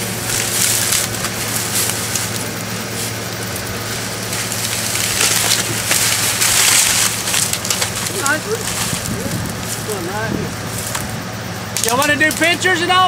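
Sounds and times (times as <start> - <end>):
dry brush rustling and crackling: 0.0 - 12.6.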